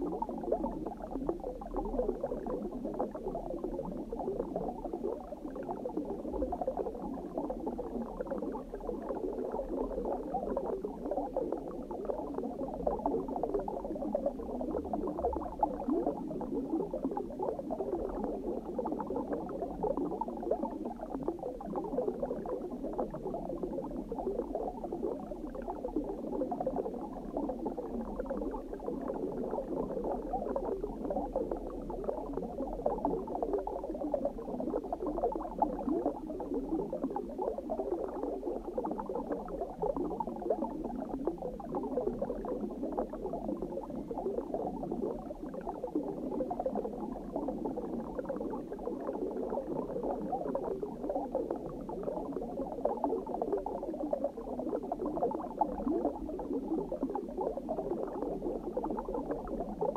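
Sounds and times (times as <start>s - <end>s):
underwater bubbling: 0.0s - 59.9s.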